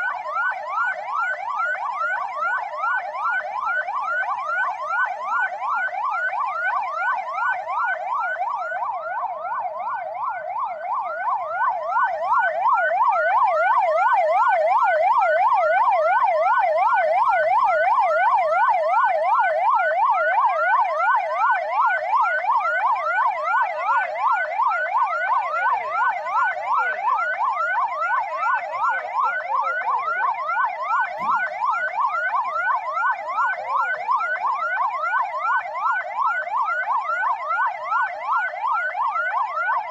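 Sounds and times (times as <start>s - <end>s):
ambulance siren yelping: 0.0s - 39.9s.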